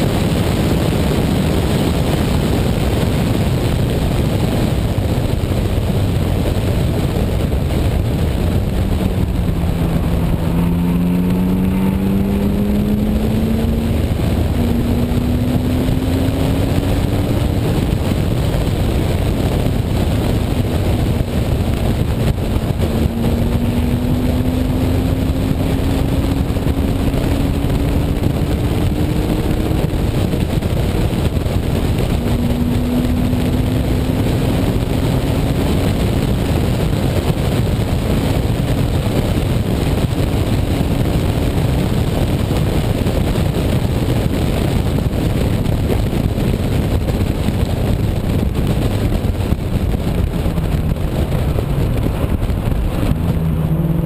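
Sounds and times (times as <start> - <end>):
car engine revving: 0.0 - 54.0
road rumble: 0.0 - 54.0
wind noise: 0.0 - 54.0.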